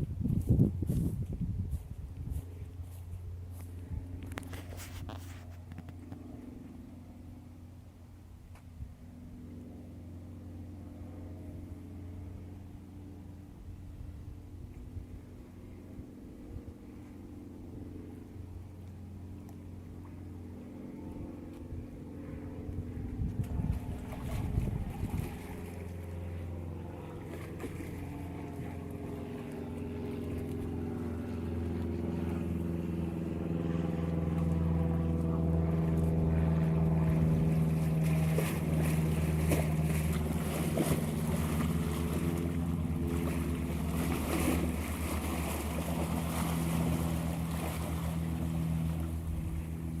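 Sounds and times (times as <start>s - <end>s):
engine low hum: 0.0s - 50.0s.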